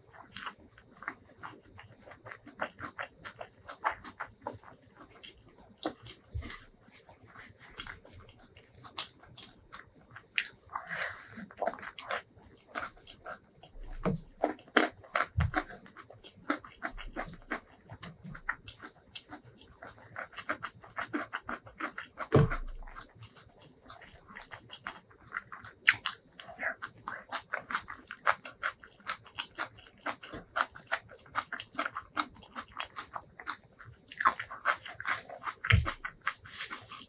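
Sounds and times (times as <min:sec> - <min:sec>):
chewing with crisp crunches: 0:00.0 - 0:37.0.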